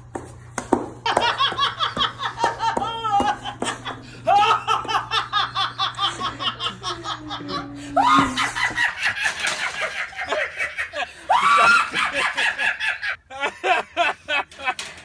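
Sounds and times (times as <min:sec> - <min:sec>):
woman laughing hard: 0:01.0 - 0:14.8.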